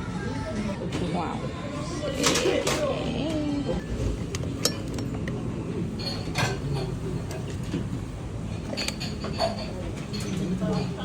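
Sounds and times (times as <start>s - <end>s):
murmur of chatter: 0.0s - 11.0s
dishes and cutlery clinking: 2.0s - 11.0s.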